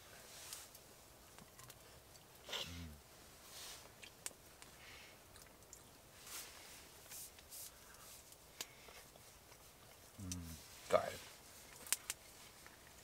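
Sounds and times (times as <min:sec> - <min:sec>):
faint hissy rustles: 0:00.0 - 0:13.0.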